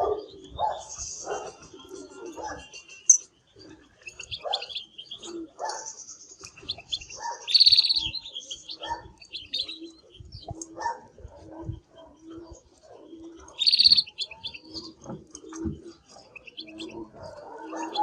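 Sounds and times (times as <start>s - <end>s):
lower bird calls: 0.0s - 10.8s, 11.8s - 18.0s
canary singing trills: 0.0s - 18.0s.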